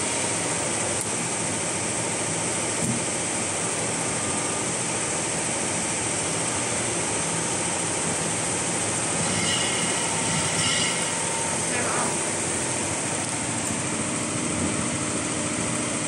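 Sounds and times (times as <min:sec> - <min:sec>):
embroidery machine running: 0:00.0 - 0:16.0.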